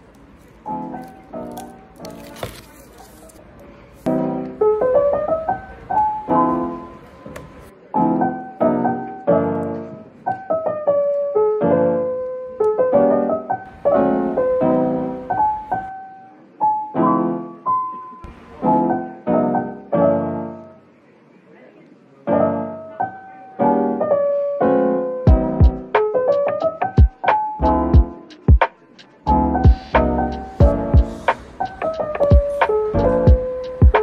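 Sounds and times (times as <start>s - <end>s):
soft piano music: 0.0s - 21.0s, 22.1s - 34.0s.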